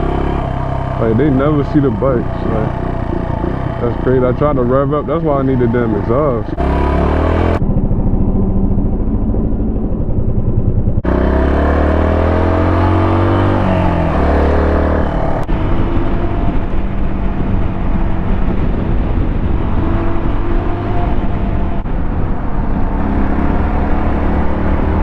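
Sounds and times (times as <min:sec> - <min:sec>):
motorcycle engine accelerating: 0:00.0 - 0:25.0
wind and road noise: 0:00.0 - 0:25.0.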